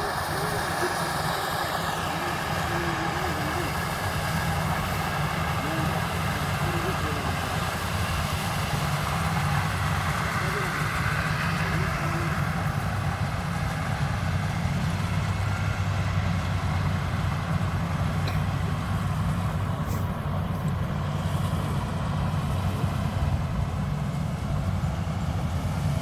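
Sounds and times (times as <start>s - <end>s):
combine harvester engine running: 0.0s - 26.0s.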